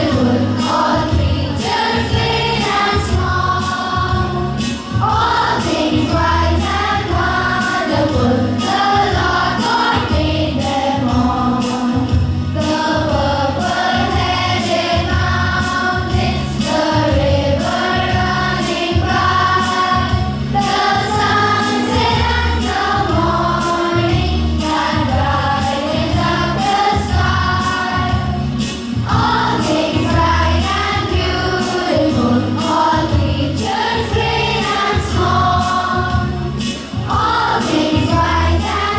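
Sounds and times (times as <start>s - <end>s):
group singing in chorus: 0.0s - 38.9s
instrumental music with steady beat: 0.0s - 38.9s.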